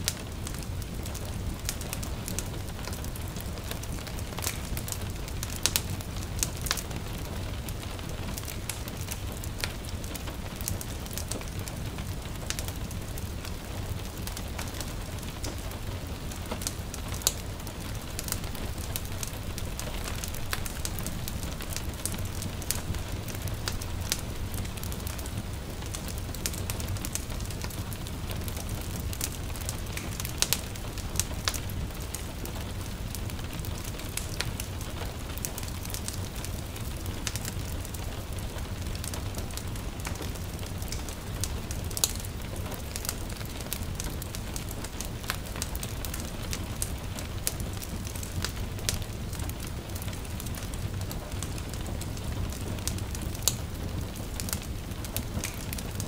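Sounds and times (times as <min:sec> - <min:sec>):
light rain patter: 0:00.0 - 0:56.0
wood fire crackling and popping: 0:00.0 - 0:56.0.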